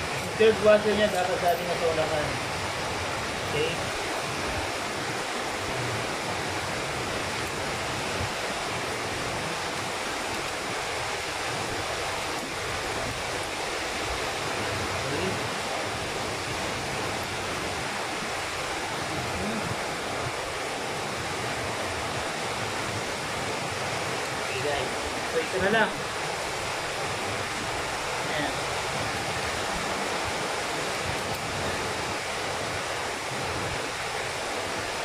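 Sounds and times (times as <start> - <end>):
steady rushing hiss: 0.0 - 35.0.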